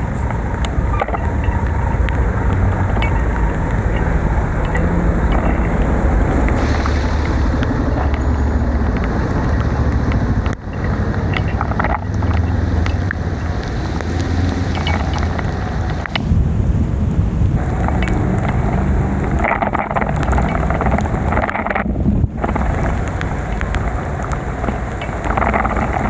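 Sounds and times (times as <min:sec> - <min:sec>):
raindrops ticking: 0:00.0 - 0:26.0
wind and road rumble: 0:00.0 - 0:26.0.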